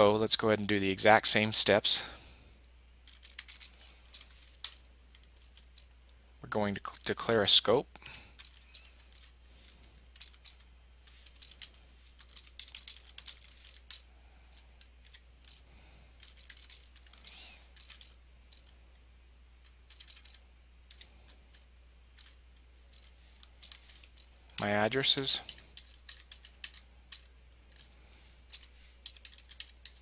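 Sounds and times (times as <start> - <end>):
faint keyboard typing: 3.0 - 6.0, 8.0 - 18.8, 19.6 - 30.0.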